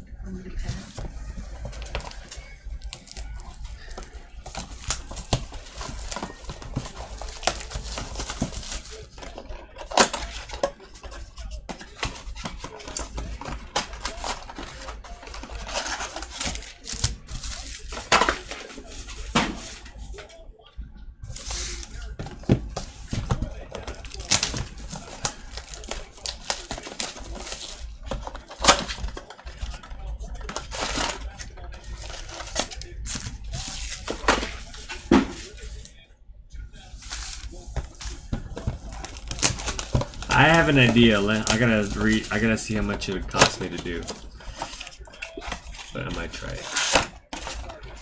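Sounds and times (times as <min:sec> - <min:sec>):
plastic wrap crinkling: 0:00.8 - 0:20.2, 0:22.8 - 0:35.9, 0:36.8 - 0:48.0
cardboard tearing: 0:01.5 - 0:10.8, 0:11.4 - 0:19.8, 0:22.8 - 0:35.6, 0:37.0 - 0:48.0.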